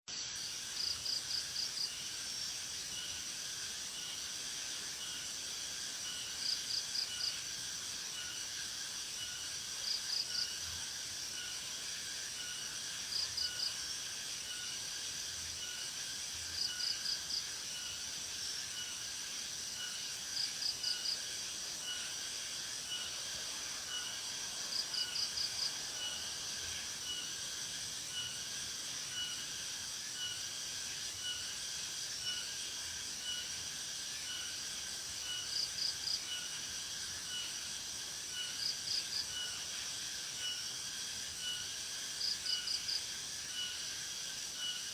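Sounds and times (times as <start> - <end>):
crickets and insects chorus: 0.1 - 44.9.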